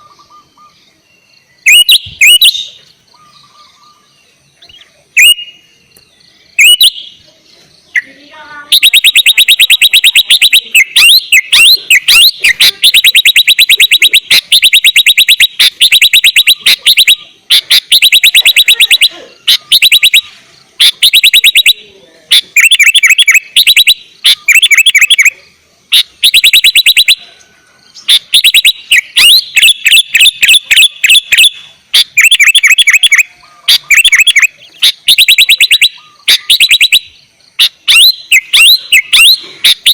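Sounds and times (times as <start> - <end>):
bird singing chattering song: 0.0 - 39.9
short bird calls: 0.0 - 39.9.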